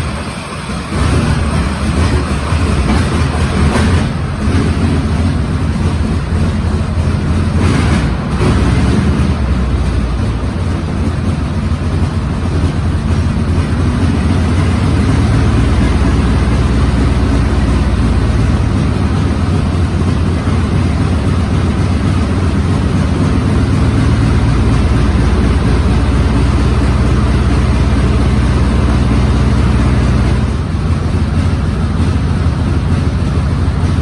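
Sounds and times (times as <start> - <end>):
tank engine rumbling: 0.0 - 34.0.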